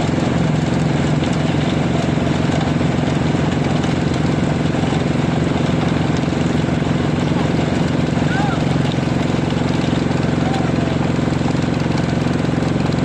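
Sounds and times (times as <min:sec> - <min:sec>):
diesel engine pulsing hum: 0:00.0 - 0:13.0.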